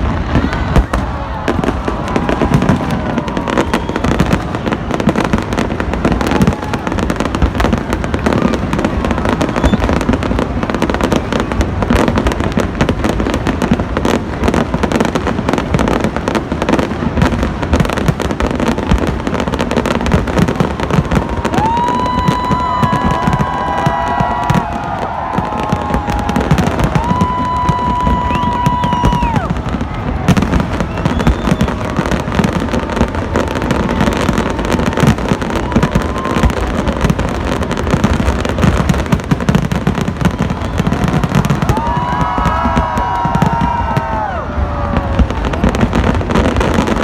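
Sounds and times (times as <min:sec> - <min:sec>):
fireworks bangs and crackling: 0:00.0 - 0:47.0.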